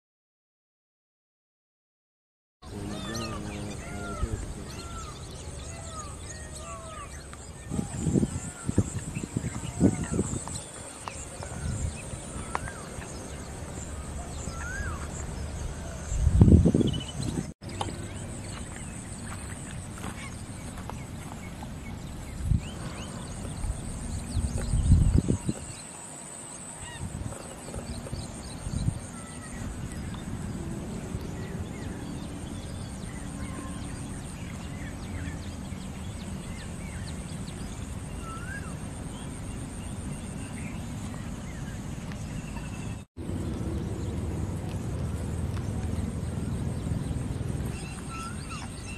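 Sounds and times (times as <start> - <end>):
high insect drone: 2.6 - 16.9, 17.7 - 48.9
small birds chirping: 2.6 - 48.9.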